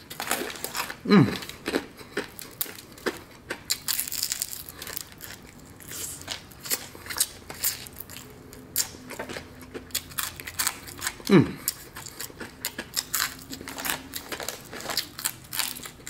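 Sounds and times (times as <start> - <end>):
crunching crispy fried chicken: 0.0 - 16.0.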